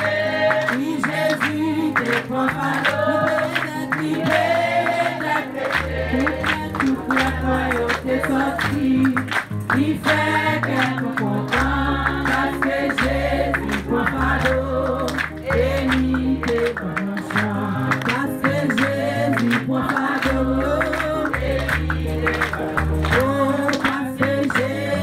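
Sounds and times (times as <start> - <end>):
held bass notes: 0.0 - 25.0
song with singing voices: 0.0 - 25.0.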